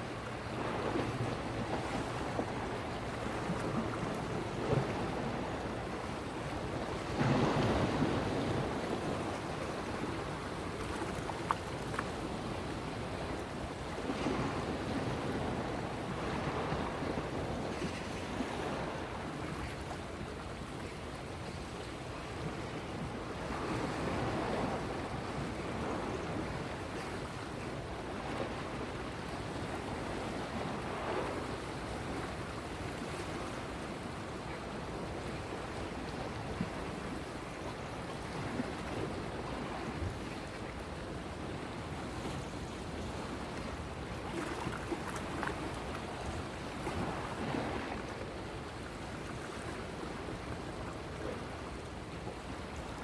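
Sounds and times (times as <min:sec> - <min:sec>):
ocean waves washing in: 0:00.0 - 0:53.0.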